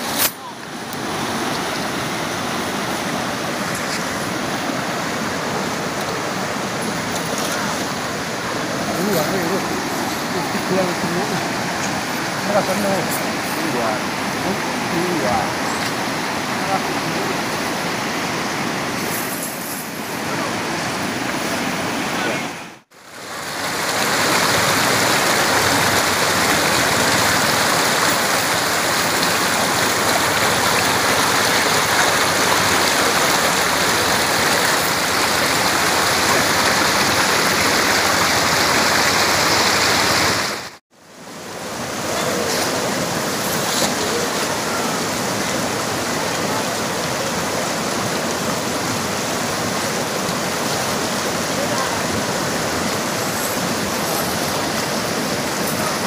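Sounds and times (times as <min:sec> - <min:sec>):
river rushing over boulders: 0:00.0 - 0:56.0.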